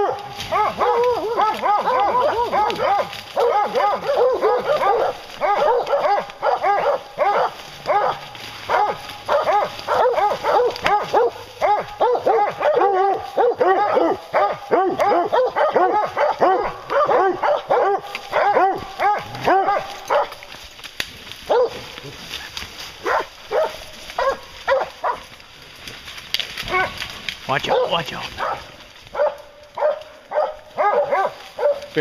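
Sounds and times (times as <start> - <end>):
hounds baying: 0.0 - 32.0.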